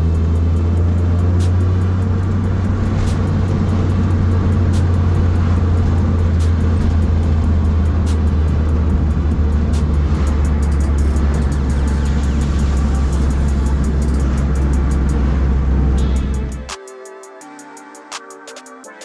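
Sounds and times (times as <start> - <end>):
car engine and road drone: 0.0 - 16.8
music playing: 0.0 - 19.0.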